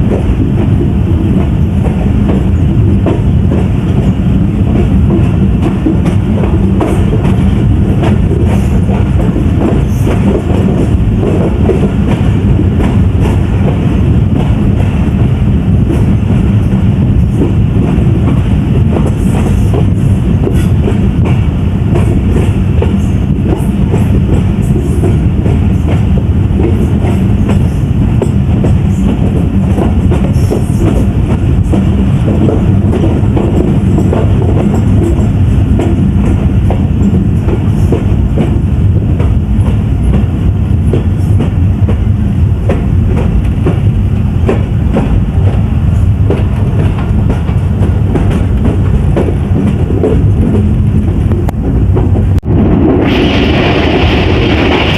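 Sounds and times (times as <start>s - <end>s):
train rumbling: 0.0s - 54.9s.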